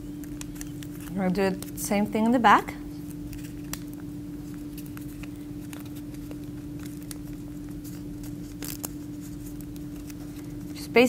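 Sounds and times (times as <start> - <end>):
steady low hum: 0.0 - 11.0
sharp paper crinkle: 0.1 - 1.9, 3.0 - 10.8
paper rustling and creasing: 0.2 - 1.8, 3.0 - 10.8.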